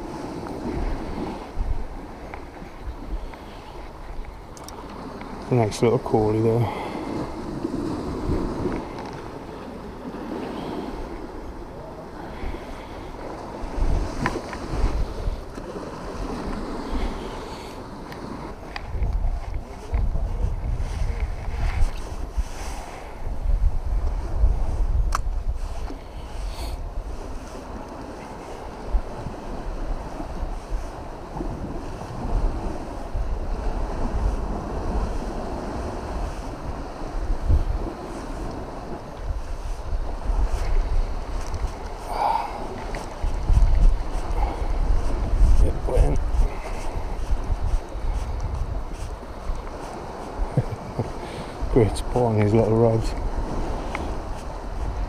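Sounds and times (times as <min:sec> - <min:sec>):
sea waves against pier wall: 0:00.0 - 0:55.0
wind rumbling on microphone: 0:00.0 - 0:55.0.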